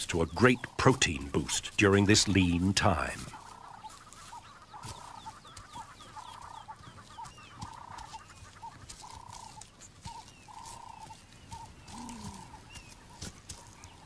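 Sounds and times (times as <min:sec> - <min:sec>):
birds clucking calls: 0:00.0 - 0:14.0.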